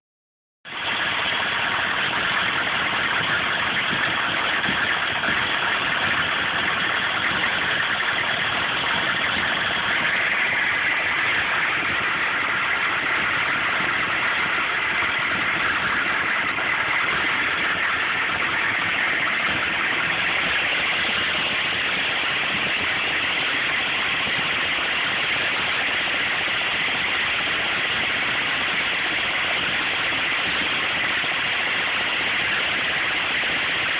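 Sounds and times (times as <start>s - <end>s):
diesel engine idling with clatter: 0.6s - 33.9s.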